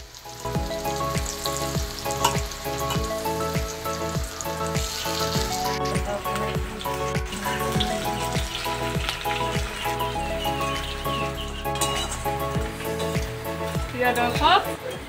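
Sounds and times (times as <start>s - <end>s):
background music with steady beat: 0.0s - 15.0s
pakoras sizzling in hot oil: 0.0s - 15.0s.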